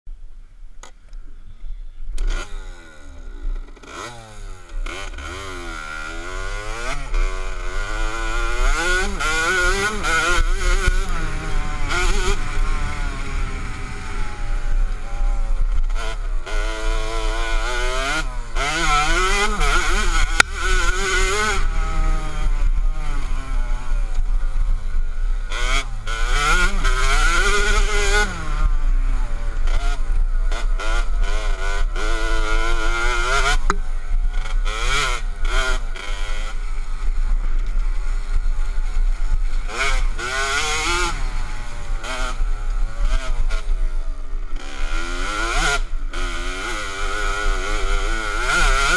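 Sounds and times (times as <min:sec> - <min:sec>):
dirt bike engine revving: 0:01.5 - 0:48.9.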